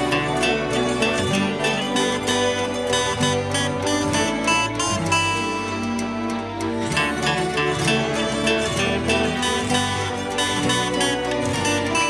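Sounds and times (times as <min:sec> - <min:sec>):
electric guitars playing: 0:00.0 - 0:12.0.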